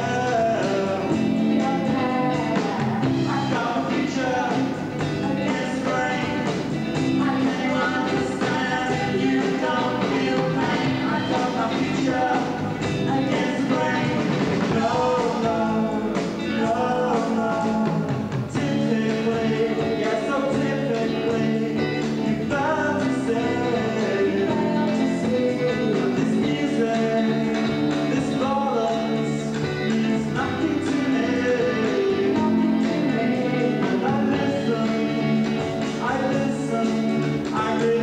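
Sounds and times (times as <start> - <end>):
bass guitar: 0.0 - 38.0
drums: 0.0 - 38.0
person singing: 0.0 - 38.0.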